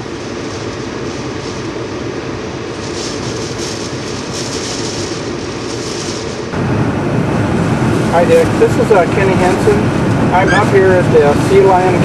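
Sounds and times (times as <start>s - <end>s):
heavy wind and rain storm: 0.0s - 12.0s
high hiss: 0.0s - 12.0s.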